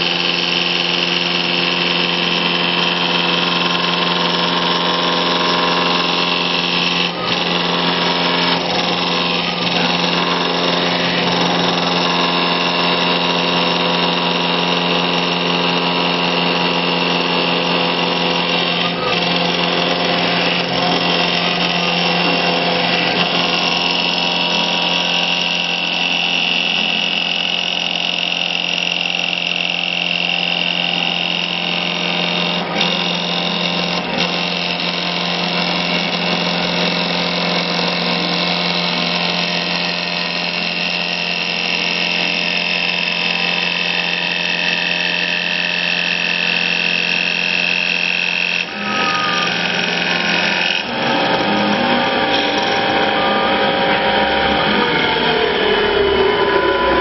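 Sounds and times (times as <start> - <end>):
cutter shaving wood: 0.0 - 57.0
lathe motor hum and whine: 0.0 - 57.0.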